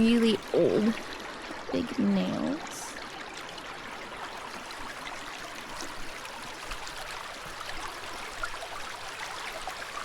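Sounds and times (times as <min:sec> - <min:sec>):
water trickling over rocks: 0:00.0 - 0:10.0.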